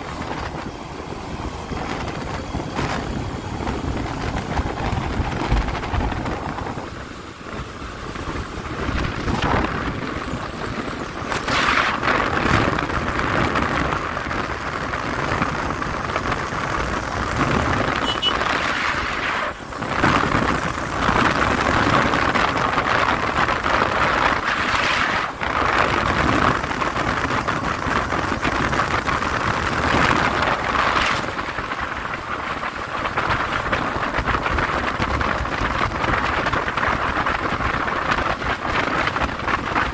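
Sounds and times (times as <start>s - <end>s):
motorcycle motor and road noise: 0.0s - 39.9s
wind buffeting microphone: 0.0s - 39.9s.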